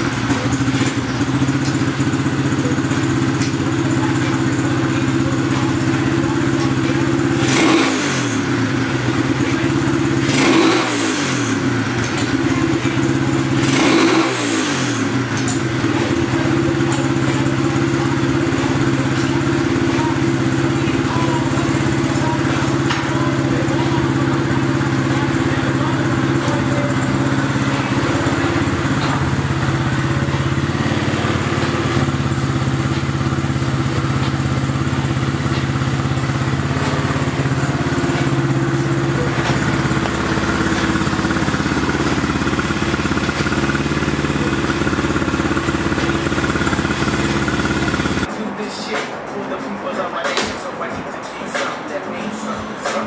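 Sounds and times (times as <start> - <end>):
motorcycle engine idling and revving: 0.0 - 48.3.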